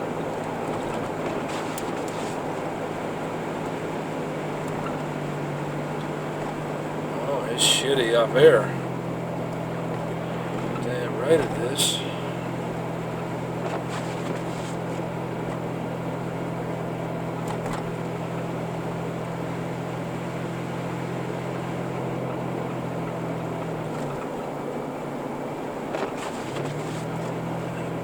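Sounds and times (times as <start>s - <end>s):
car engine hum: 0.0s - 28.0s
road noise: 0.0s - 28.0s.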